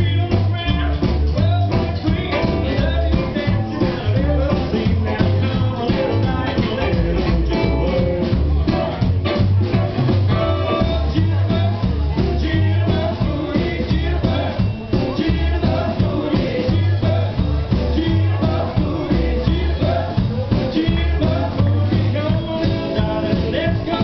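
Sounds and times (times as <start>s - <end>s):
double bass: 0.0s - 24.0s
drum kit: 0.0s - 24.0s
electric guitar: 0.0s - 24.0s
swing band playing: 0.0s - 24.0s.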